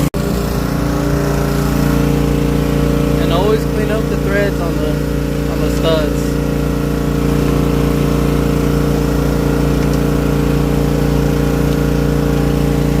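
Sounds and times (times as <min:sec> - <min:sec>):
air compressor motor drone: 0:00.0 - 0:13.0.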